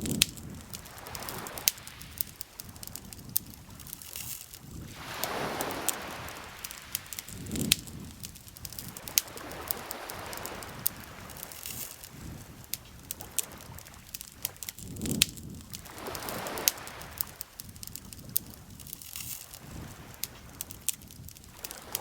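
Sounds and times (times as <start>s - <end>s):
campfire crackling and popping: 0.0s - 22.0s
lake water lapping: 0.0s - 22.0s.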